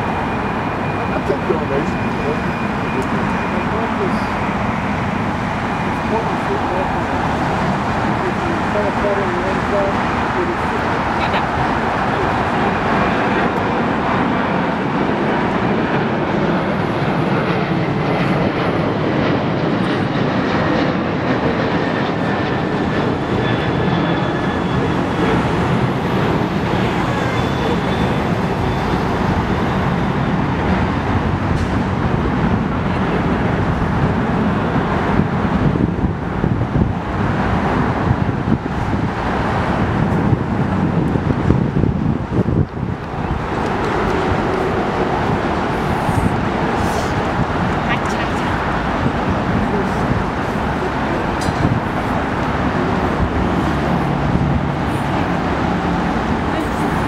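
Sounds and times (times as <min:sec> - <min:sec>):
faint turbine whine: 0:00.0 - 0:57.0
jet engines roaring: 0:00.0 - 0:57.0.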